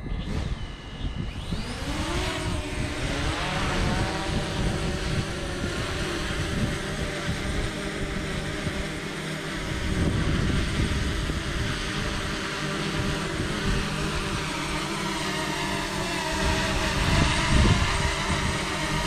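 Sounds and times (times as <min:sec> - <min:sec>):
drone propellers buzzing: 0:00.0 - 0:19.0
wind rumbling on microphone: 0:00.0 - 0:19.0.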